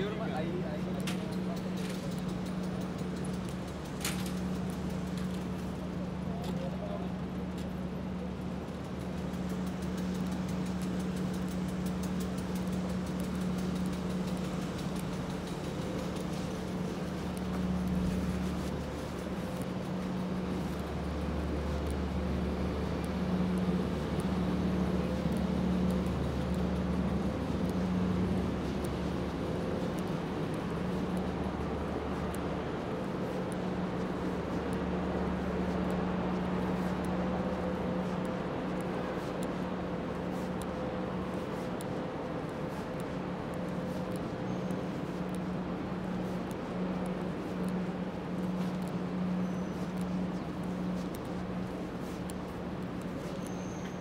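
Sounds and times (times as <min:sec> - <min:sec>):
city street traffic: 0:00.0 - 0:54.0
low mechanical hum: 0:00.0 - 0:54.0.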